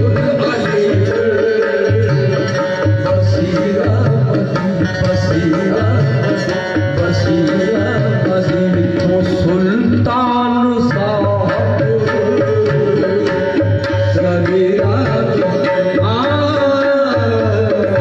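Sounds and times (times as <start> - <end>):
hand drums beating: 0.0 - 18.0
harmonium drone and melody: 0.0 - 18.0.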